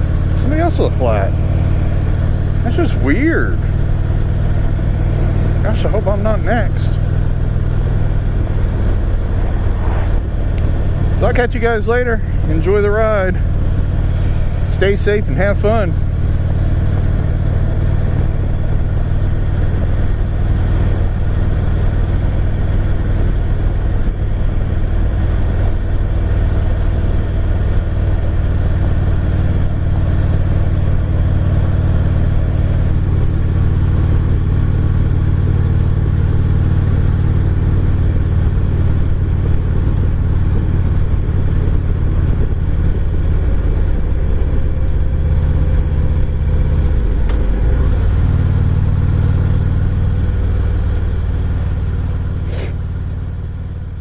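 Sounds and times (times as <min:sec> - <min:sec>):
motorcycle engine cruising: 0:00.0 - 0:54.0
road and wind noise: 0:00.0 - 0:54.0.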